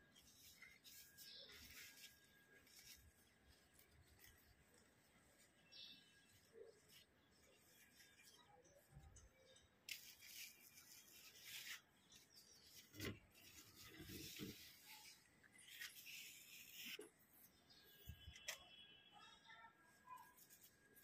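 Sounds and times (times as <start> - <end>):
faint rustling of leaves: 0.0 - 21.0.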